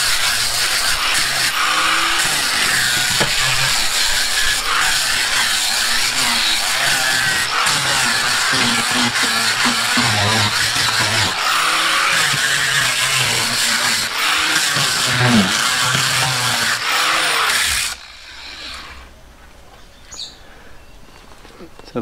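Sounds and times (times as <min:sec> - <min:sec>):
angle grinder sanding wood: 0:00.0 - 0:19.0.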